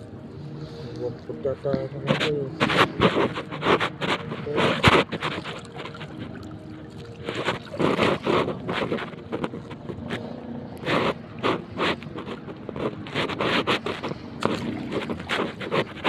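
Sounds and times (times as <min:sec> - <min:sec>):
wet seaweed stirred by hand: 0:00.0 - 0:16.0.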